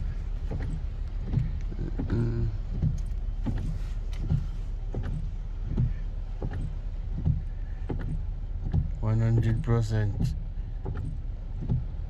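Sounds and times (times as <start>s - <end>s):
heavy rain on a car: 0.0s - 12.0s
low engine rumble: 0.0s - 12.0s.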